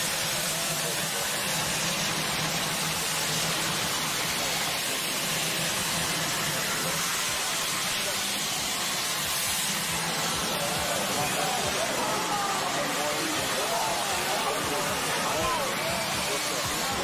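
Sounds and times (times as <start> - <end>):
crowd cheering: 0.0 - 17.0.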